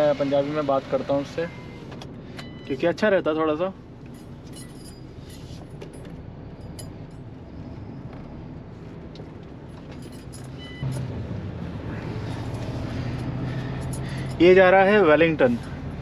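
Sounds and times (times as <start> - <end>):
truck diesel engine from cab: 0.0 - 16.0.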